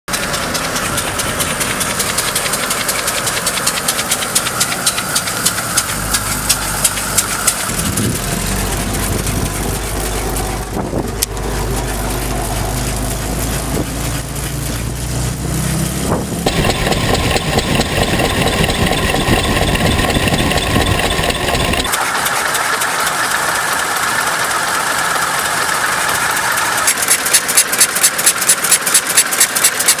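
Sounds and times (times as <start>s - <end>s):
two-cylinder car engine pulsing: 0.1s - 30.0s.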